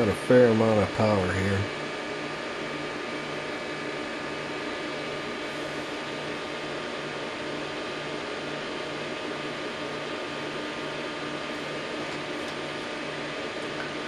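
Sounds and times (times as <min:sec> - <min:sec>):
cooling fans whooshing hiss: 0:00.0 - 0:14.0.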